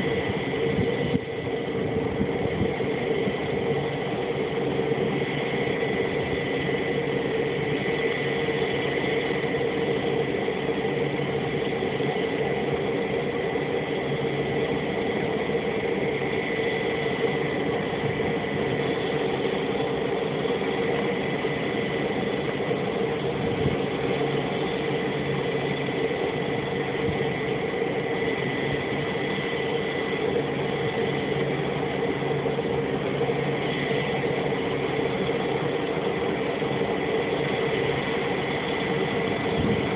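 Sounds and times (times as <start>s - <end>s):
high turbine whine: 0.0s - 39.9s
turboprop engine idling: 0.0s - 39.9s.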